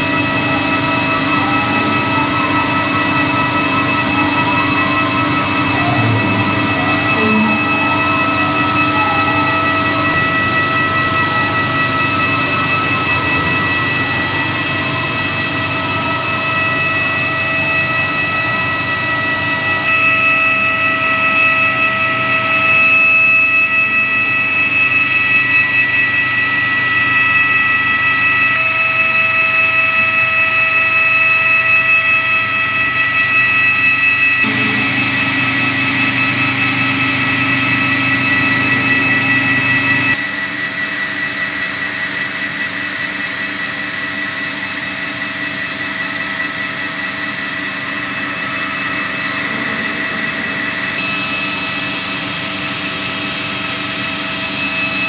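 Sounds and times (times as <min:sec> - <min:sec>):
machine motors whining over low hum: 0:00.0 - 0:40.4, 0:46.0 - 0:55.0.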